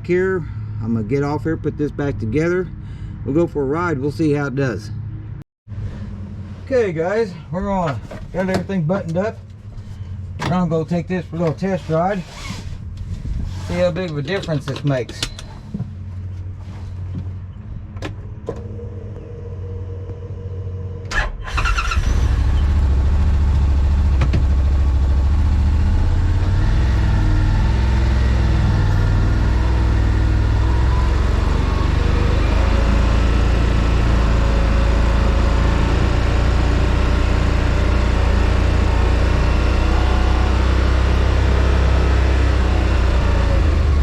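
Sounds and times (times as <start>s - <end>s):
side-by-side engine running: 7.7s - 44.0s.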